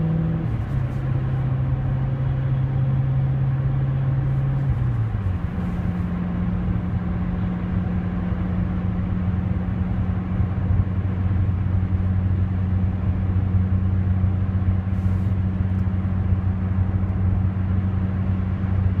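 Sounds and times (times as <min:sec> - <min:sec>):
low engine hum: 0:00.0 - 0:19.0
tyre and road noise: 0:00.0 - 0:19.0.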